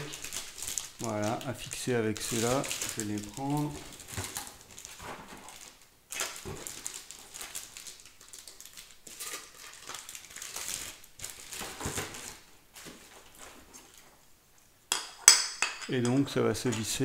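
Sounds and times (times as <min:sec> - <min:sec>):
parts rustling: 0:00.0 - 0:17.0.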